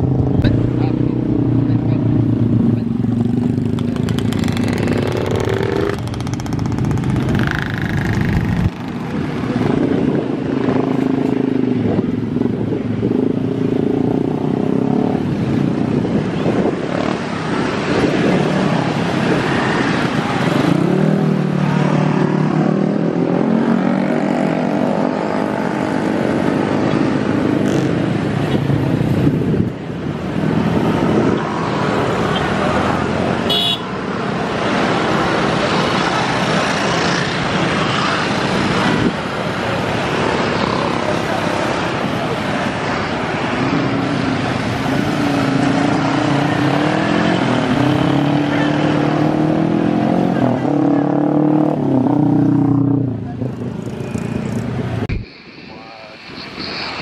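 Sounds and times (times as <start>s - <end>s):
motorcycle and scooter engines: 0.0s - 57.0s.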